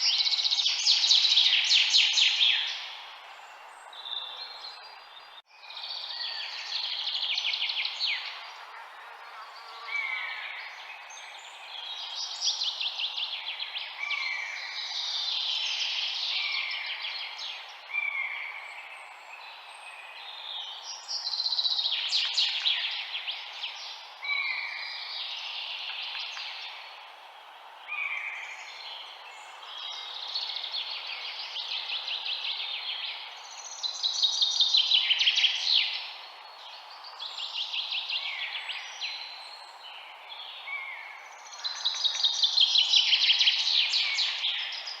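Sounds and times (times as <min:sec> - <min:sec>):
birds singing trills: 0:00.0 - 0:27.2, 0:27.9 - 0:45.0
faint steady hiss: 0:00.0 - 0:45.0.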